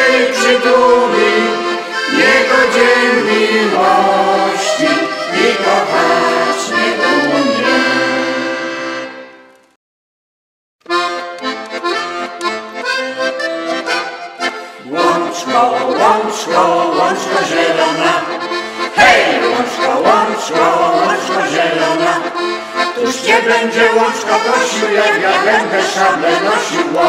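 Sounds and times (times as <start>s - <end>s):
accordion folk tune: 0.0s - 9.8s, 10.8s - 27.0s.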